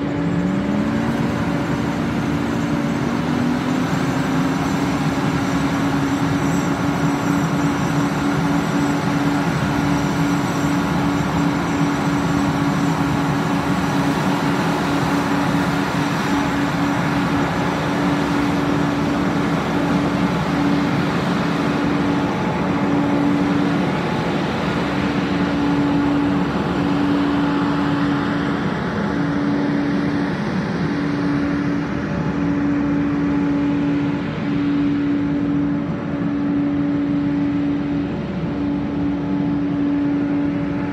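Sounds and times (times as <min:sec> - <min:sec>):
farm vehicle engine droning: 0:00.0 - 0:40.9.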